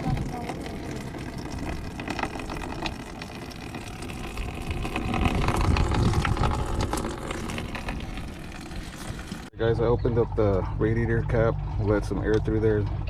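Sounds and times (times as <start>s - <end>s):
coolant draining splashing: 0.0s - 13.0s
low rumble: 0.0s - 13.0s.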